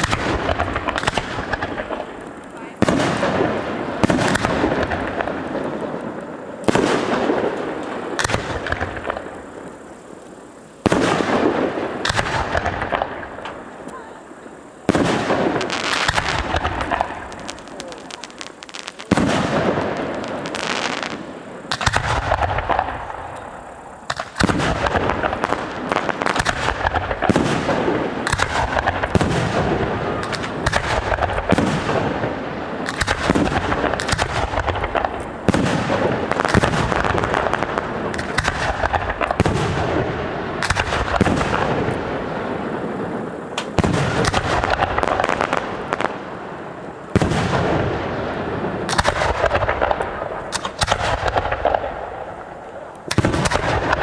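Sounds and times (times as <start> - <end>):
fireworks bursting: 0.0 - 54.0
fireworks crackling: 0.0 - 54.0.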